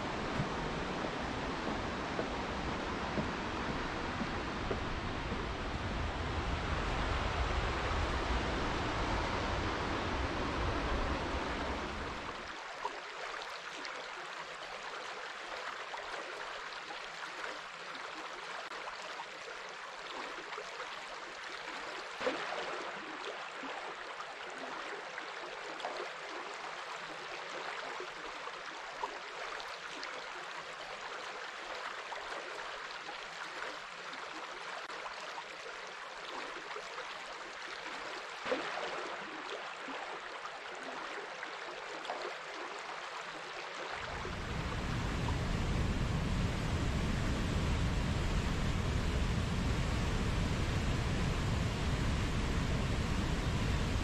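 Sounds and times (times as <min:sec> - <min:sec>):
river water flowing and lapping: 0:00.0 - 0:54.0.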